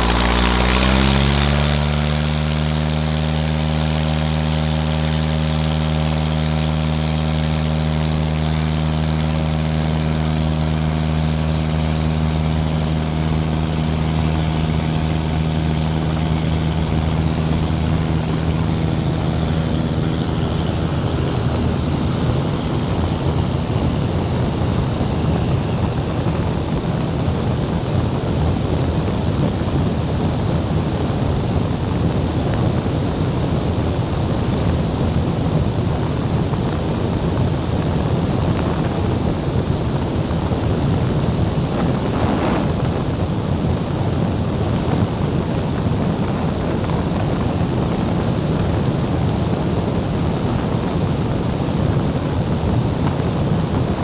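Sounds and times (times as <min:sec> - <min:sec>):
loud wind noise: 0:00.0 - 0:54.0
propeller engine droning: 0:00.0 - 0:54.0.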